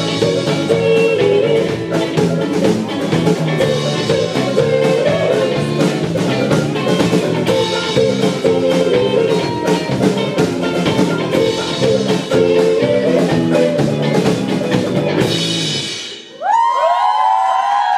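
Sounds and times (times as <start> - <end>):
live band playing: 0.0 - 16.7
drum kit: 0.0 - 16.8
guitar: 0.0 - 17.9.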